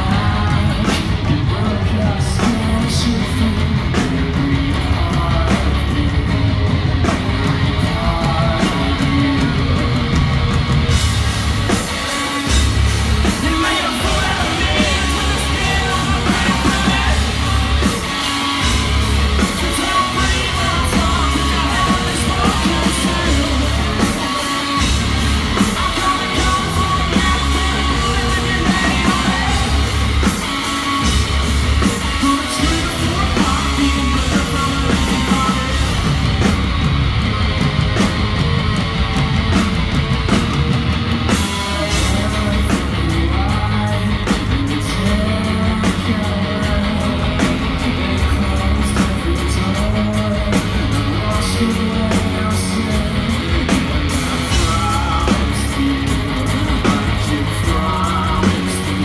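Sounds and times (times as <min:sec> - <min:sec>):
distorted bass guitar riff: 0:00.0 - 0:59.0
pounding drums: 0:00.0 - 0:59.0.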